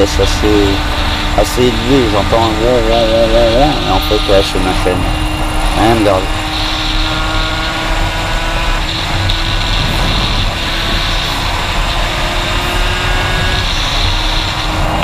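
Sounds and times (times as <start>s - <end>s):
steady hum: 0.0s - 15.0s
two-stroke motorcycle engine: 0.0s - 15.0s.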